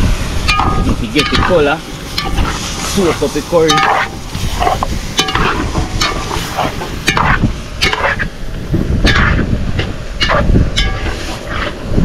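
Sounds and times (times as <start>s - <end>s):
meat sizzling in hot oil: 0.0s - 11.8s.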